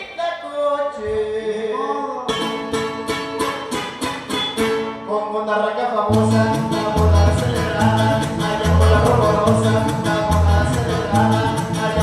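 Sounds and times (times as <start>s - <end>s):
person singing: 0.0s - 2.7s, 5.0s - 12.0s
latin dance music: 0.0s - 12.0s.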